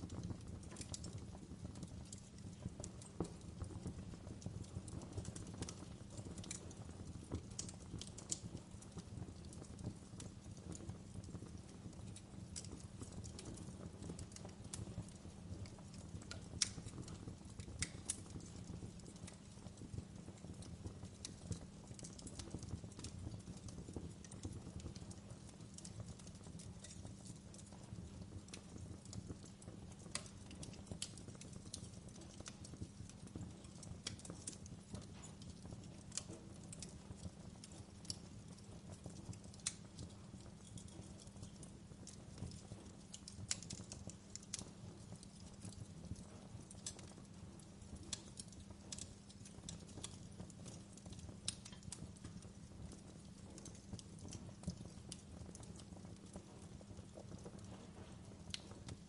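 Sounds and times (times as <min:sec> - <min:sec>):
fire pops and snaps: 0:00.0 - 0:59.0
low rush of burning fire: 0:00.0 - 0:59.0.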